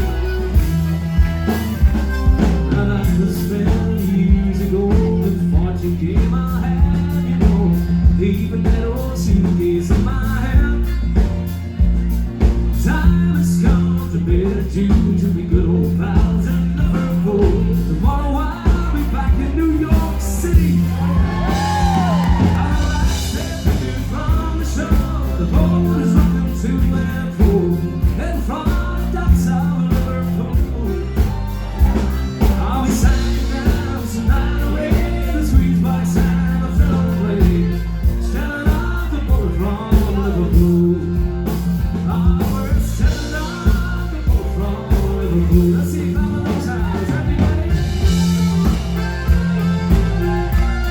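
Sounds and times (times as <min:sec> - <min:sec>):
upbeat band song with singing: 0:00.0 - 0:50.9.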